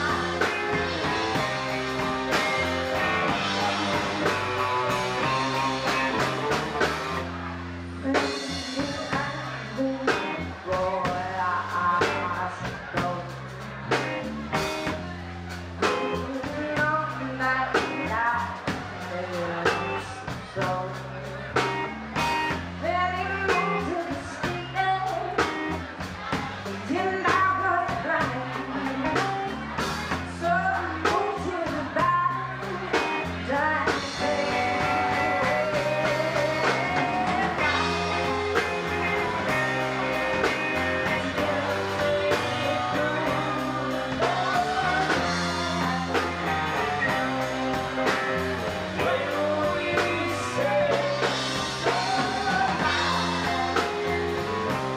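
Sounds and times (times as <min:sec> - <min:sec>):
rock band playing: 0:00.0 - 0:54.9
woman singing: 0:08.0 - 0:14.2, 0:15.8 - 0:21.7, 0:22.8 - 0:54.9.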